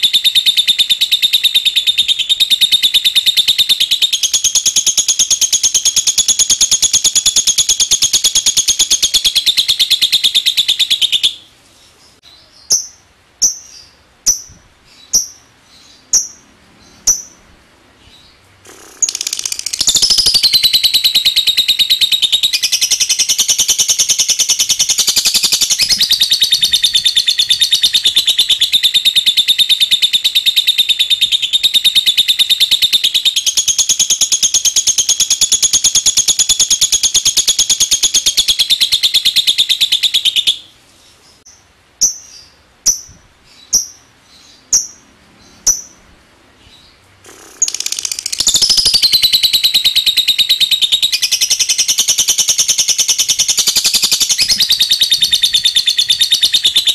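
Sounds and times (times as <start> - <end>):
lovebird chattering trill: 0.0 - 11.5, 12.1 - 17.5, 18.1 - 40.7, 41.4 - 46.0, 46.7 - 56.9.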